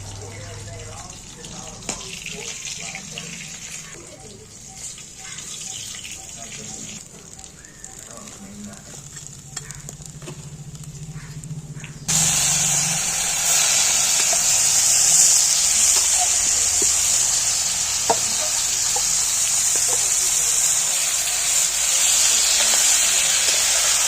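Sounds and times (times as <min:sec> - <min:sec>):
seafood sizzling in hot oil: 0:00.0 - 0:11.0, 0:12.1 - 0:24.0.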